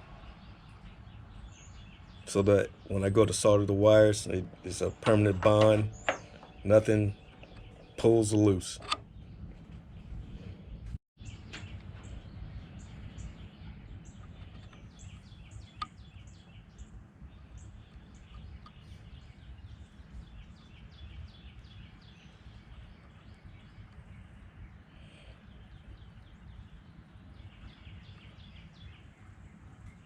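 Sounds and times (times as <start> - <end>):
bird chirping: 0.0 - 30.0
low outdoor rumble: 0.0 - 30.0.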